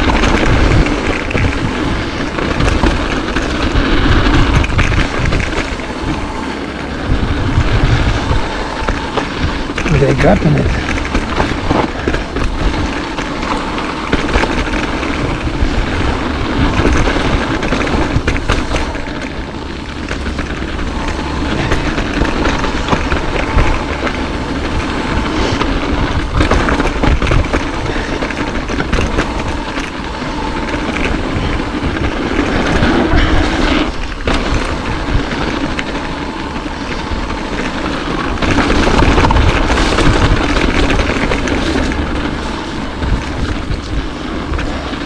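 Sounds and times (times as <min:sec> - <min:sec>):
bike rattling over bumps: 0:00.0 - 0:45.0
wind and tyre noise: 0:00.0 - 0:45.0.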